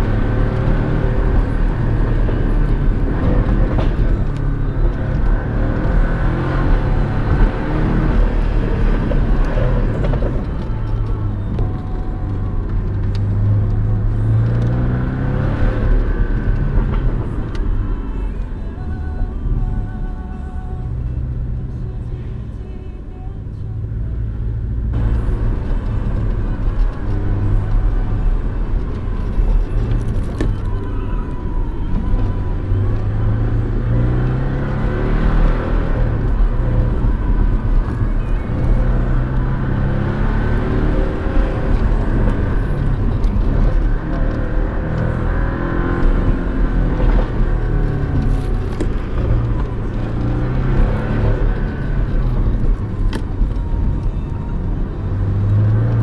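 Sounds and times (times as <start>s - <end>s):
car engine revving: 0.0s - 18.4s, 24.8s - 56.0s.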